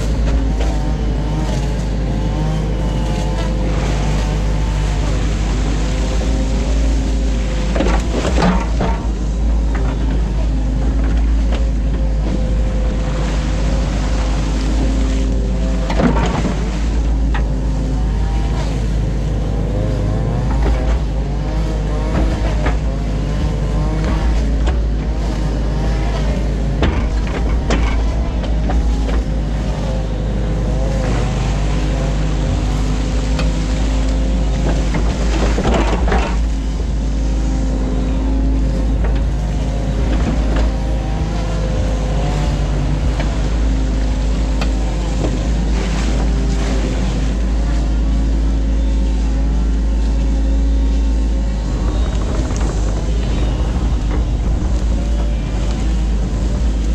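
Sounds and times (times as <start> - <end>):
excavator engine and hydraulics: 0.0 - 56.9.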